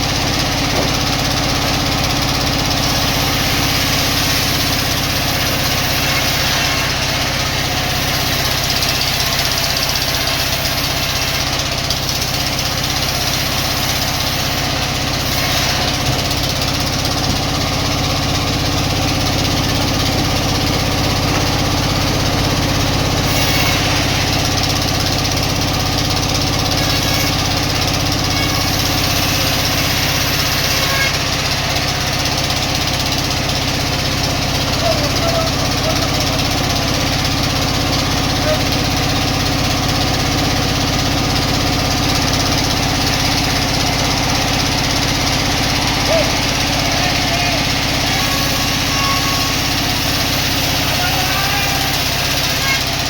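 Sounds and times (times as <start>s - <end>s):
sawmill machinery droning: 0.0s - 53.0s.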